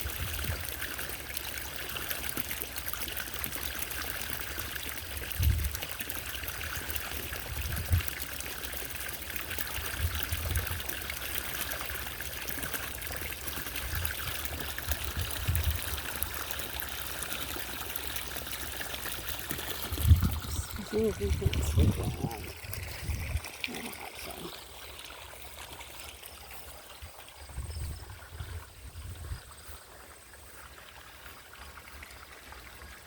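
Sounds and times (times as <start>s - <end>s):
fountain water trickling and splashing: 0.0s - 33.0s.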